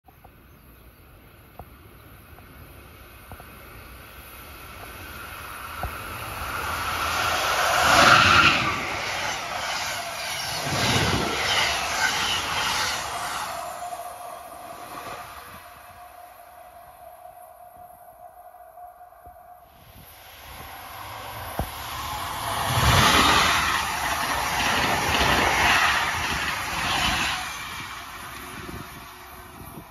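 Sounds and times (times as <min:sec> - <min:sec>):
train passing at speed: 0:01.8 - 0:29.9.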